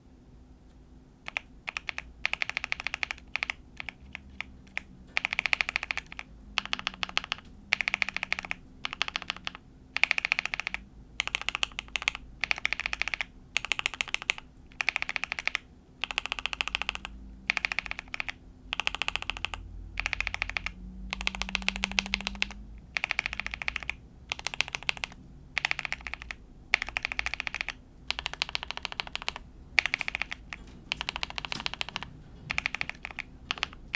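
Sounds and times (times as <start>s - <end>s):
mechanical keyboard typing: 1.3s - 33.9s.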